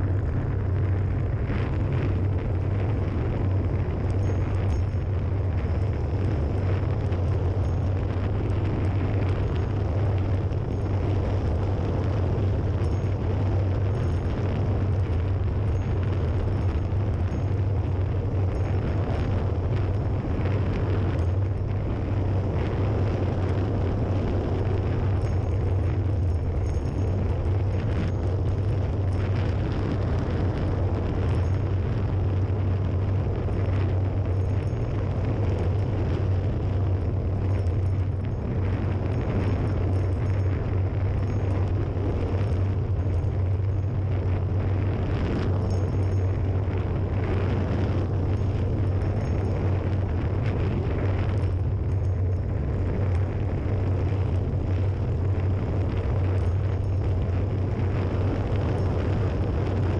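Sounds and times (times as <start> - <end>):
wind roaring on microphone: 0.0 - 59.9.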